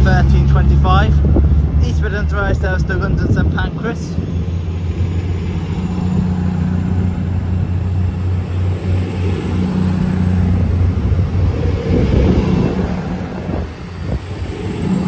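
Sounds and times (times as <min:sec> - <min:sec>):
diesel train engines humming: 0:00.0 - 0:15.0
wheel and rail noise: 0:00.0 - 0:15.0.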